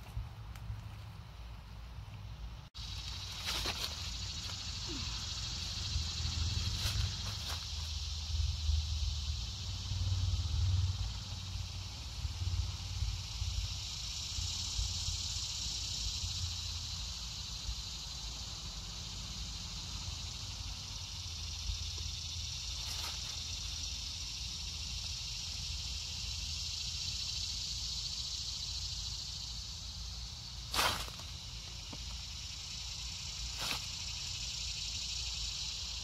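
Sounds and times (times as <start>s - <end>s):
insects chorus: 0.0s - 36.0s.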